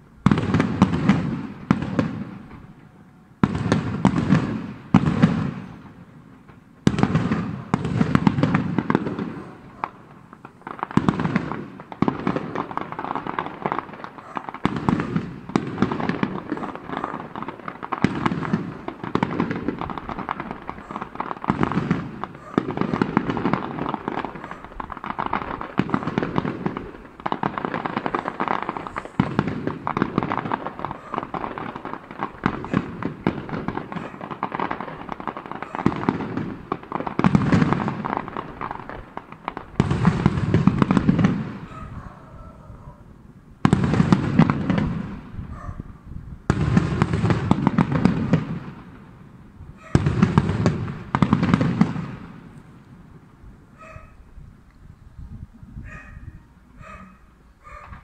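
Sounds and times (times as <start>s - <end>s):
firework shells booming: 0.0s - 54.3s
fireworks crackling: 0.0s - 58.0s.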